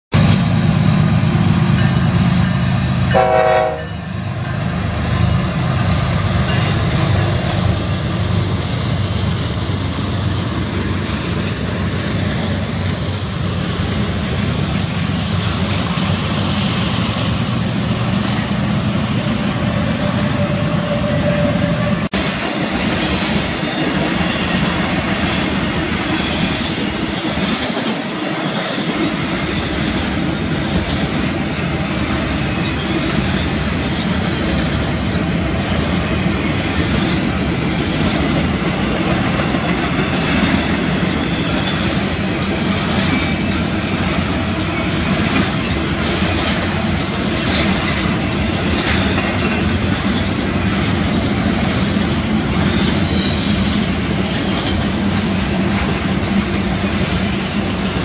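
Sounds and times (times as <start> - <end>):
diesel locomotives passing: 0.1 - 58.0
train wheels rumbling on rail: 0.1 - 58.0.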